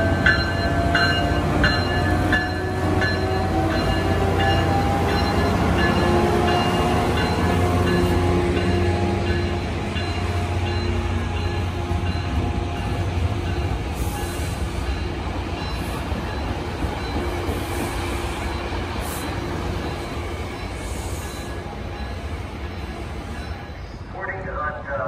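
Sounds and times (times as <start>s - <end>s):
train wheels on rails: 0.0s - 24.1s
diesel train engine drone: 0.0s - 25.0s.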